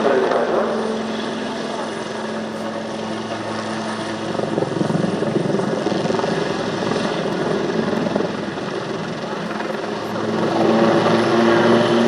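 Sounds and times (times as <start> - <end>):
helicopter engine hum: 0.0 - 12.0
helicopter rotor noise: 0.0 - 12.0.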